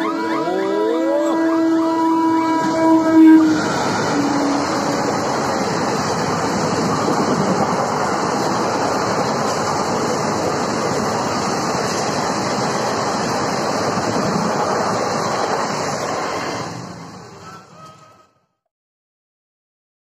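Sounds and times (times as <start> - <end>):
train rushing past: 0.0 - 18.4.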